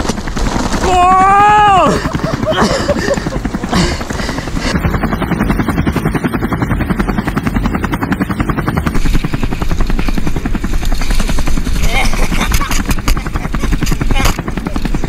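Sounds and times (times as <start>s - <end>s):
helicopter rotor chopping: 0.0s - 15.0s.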